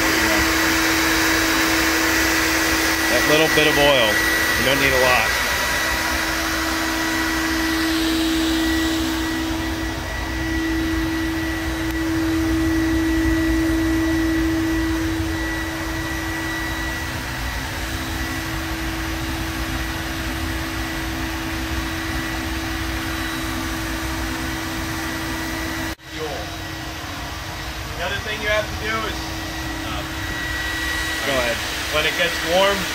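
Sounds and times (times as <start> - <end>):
furnace air blower whirring: 0.0 - 32.9.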